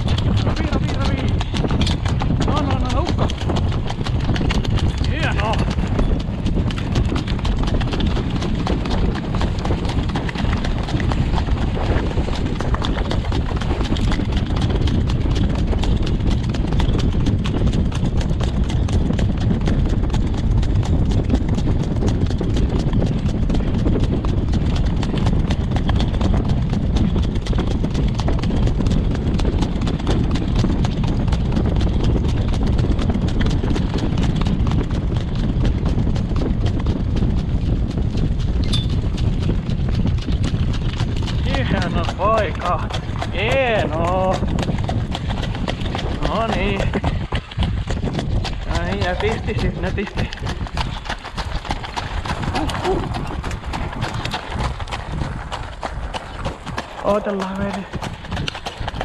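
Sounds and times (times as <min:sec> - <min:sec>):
horse hooves trotting on dirt: 0:00.0 - 0:59.0
steady low rumble: 0:00.0 - 0:59.0.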